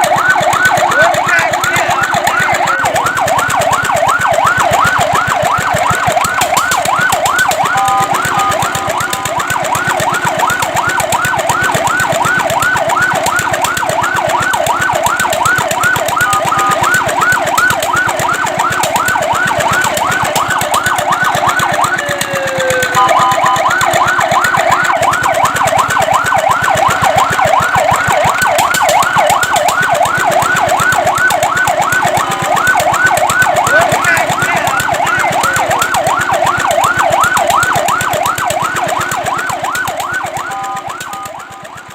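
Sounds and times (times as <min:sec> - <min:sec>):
fire truck siren yelp: 0:00.0 - 0:41.9.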